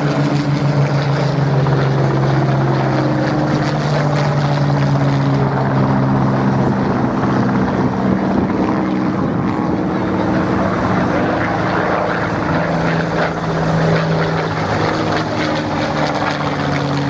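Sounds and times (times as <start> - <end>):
propeller aircraft engines droning: 0.0 - 17.0.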